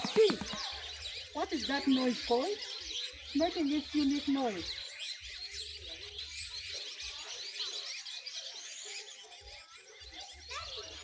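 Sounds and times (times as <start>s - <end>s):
many small birds chirping: 0.0s - 11.0s.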